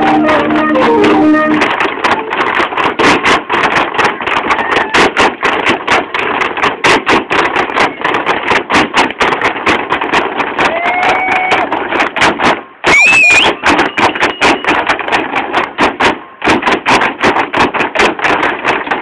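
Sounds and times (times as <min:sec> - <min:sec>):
hard shoes tapping on stage floor: 0:00.0 - 0:19.0.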